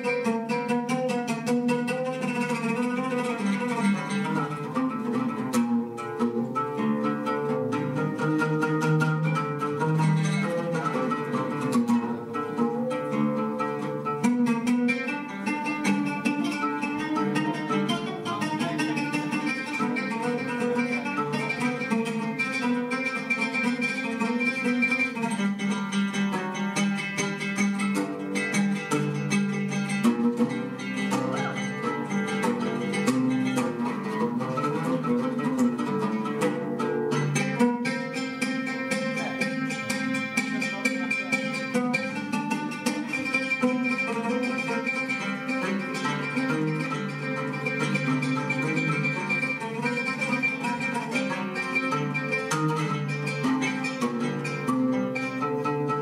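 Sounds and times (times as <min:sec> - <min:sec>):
solo oud picking: 0:00.0 - 0:56.0.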